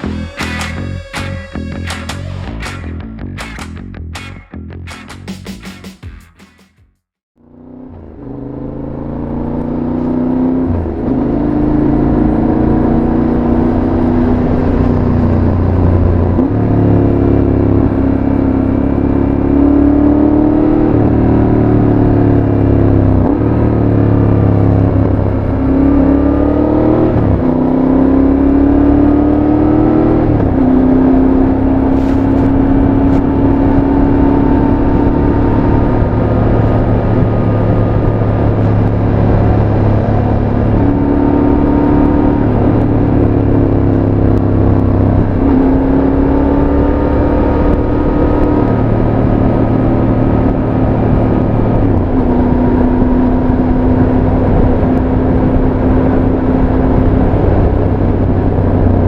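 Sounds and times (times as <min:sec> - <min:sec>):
motorcycle engine revving through gears: 0:07.4 - 0:59.0.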